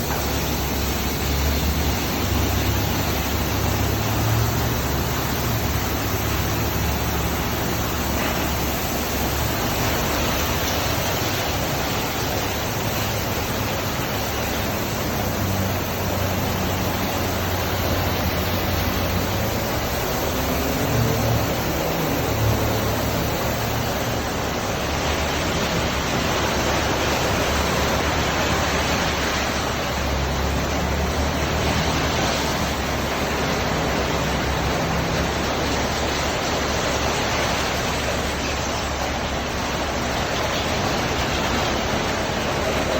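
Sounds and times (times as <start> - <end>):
car wash machinery running: 0.0 - 42.9.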